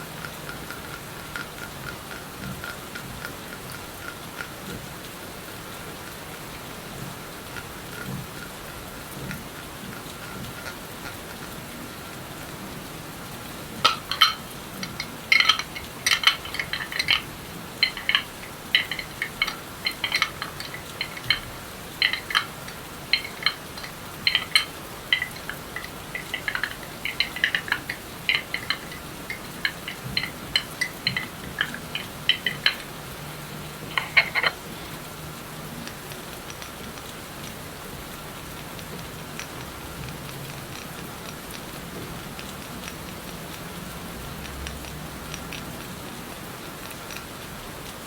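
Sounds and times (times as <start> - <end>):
crisp clicks and crackles: 0.0 - 48.0
steady rain: 0.0 - 48.0.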